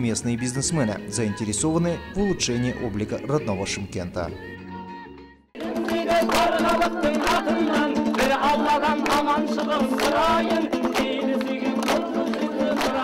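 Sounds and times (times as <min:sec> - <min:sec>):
music with singing voice: 0:00.0 - 0:13.0.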